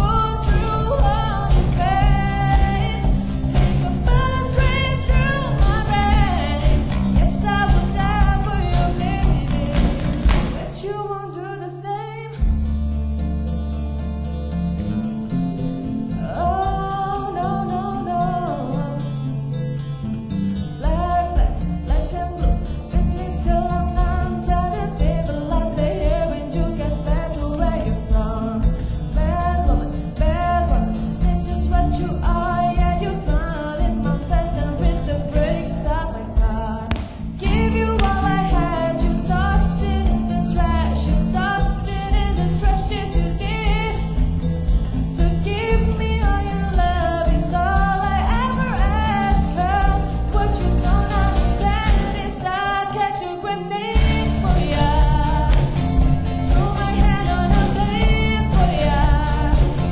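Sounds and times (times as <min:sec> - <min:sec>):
bass and percussion: 0:00.0 - 0:10.9, 0:12.4 - 0:17.0, 0:19.8 - 0:59.9
woman singing lead: 0:00.0 - 0:12.7, 0:16.1 - 0:19.7, 0:20.6 - 0:59.9
acoustic guitars: 0:00.0 - 0:59.9.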